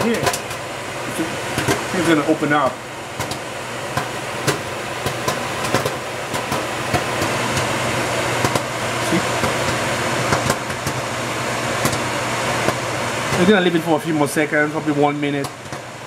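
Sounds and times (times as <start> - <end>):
microwave oven hum: 0.0 - 16.0
popcorn popping: 0.0 - 16.0.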